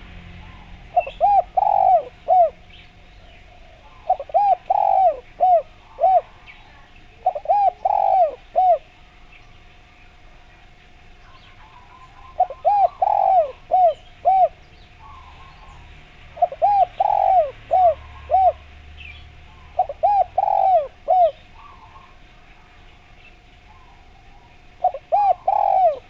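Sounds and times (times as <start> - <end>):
small birds chirping: 0.0 - 26.0
dove cooing: 0.4 - 9.3, 11.3 - 18.8, 19.4 - 26.0.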